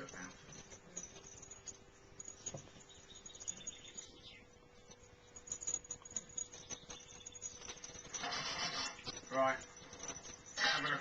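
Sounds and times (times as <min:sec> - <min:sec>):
puppy paws pattering: 0:00.0 - 0:11.0.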